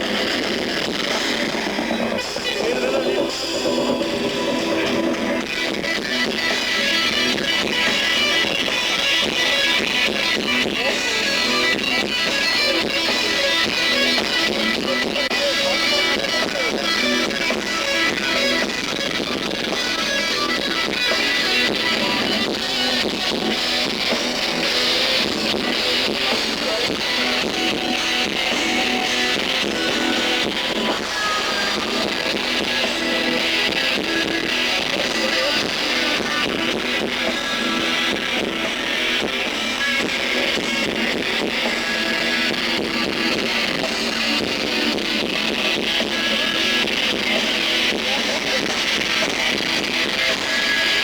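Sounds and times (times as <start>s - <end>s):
electric guitars: 0.0s - 51.0s
heavy rock band playing live: 0.0s - 51.0s.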